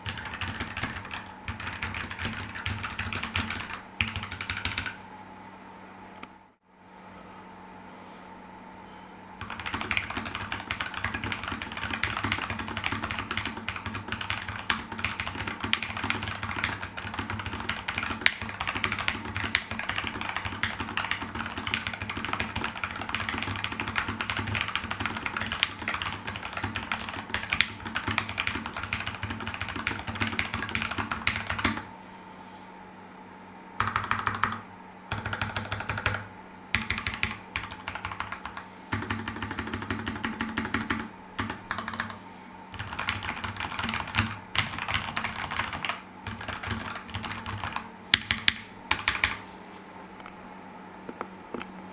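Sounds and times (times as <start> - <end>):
mechanical keyboard typing: 0.0 - 5.0, 9.4 - 31.9, 33.8 - 49.4.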